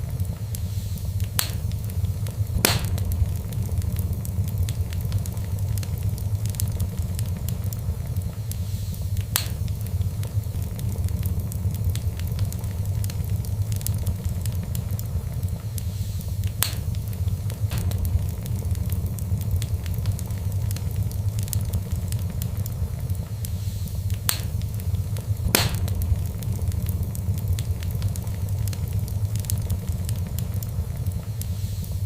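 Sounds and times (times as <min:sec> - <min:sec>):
fire pops: 0:00.0 - 0:32.0
steady low rumble: 0:00.0 - 0:32.0
wood fire crackling: 0:00.0 - 0:32.0.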